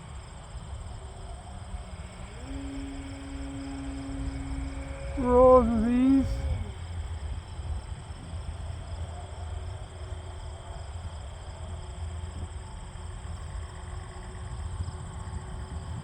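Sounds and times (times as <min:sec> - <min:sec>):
model plane motor humming: 0:00.0 - 0:16.0
wind rumble on microphone: 0:00.0 - 0:16.0.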